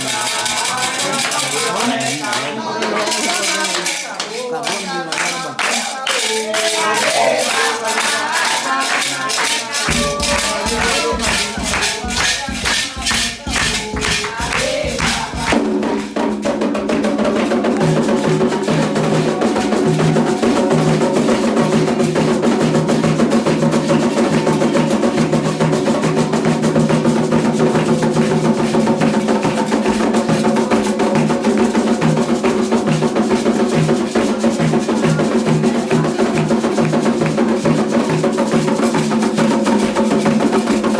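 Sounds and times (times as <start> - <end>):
shaken rattle: 0.0 - 2.4, 3.0 - 15.6, 17.4 - 40.9
fast hand clapping: 0.0 - 15.6, 23.0 - 40.9
group singing: 0.0 - 40.9.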